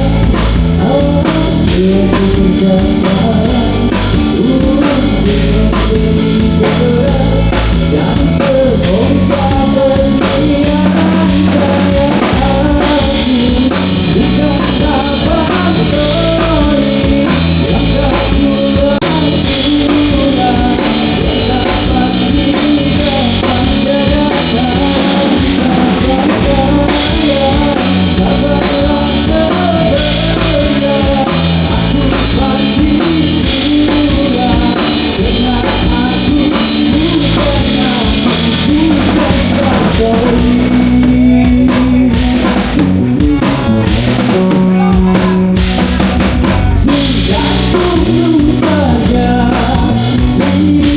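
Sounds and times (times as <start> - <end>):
bass guitar: 0.0 - 50.9
drum kit: 0.0 - 50.9
electric guitar: 0.0 - 50.9
person singing: 0.0 - 50.9.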